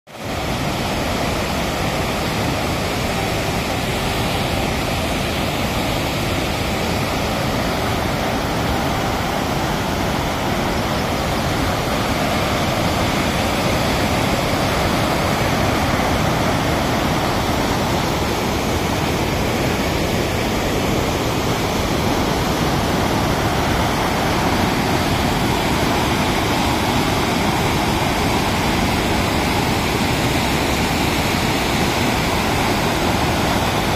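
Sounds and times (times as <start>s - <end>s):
water rushing through dam spillway: 0.1s - 33.9s.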